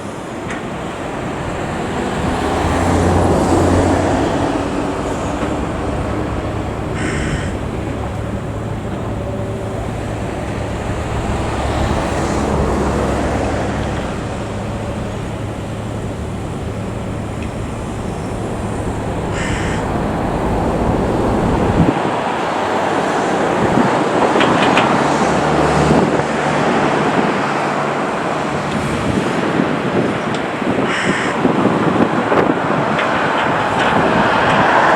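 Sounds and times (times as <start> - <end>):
excavator diesel engine rumble: 0.0 - 34.9
high mechanical machine noise: 0.0 - 34.9.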